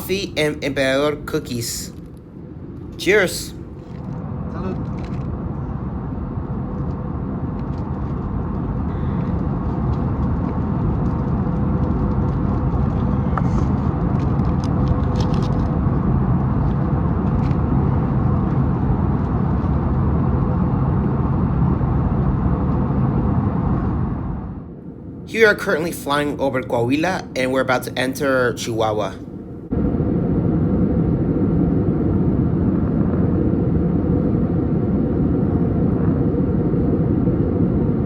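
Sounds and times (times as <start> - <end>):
airplane cabin rumble: 0.0 - 38.0
thin steady hum: 0.0 - 38.0.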